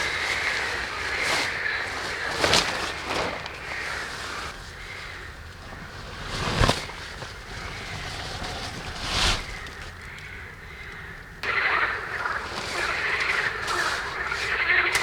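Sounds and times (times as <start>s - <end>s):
tarp rustling swishes: 0.0s - 10.4s, 11.4s - 15.0s.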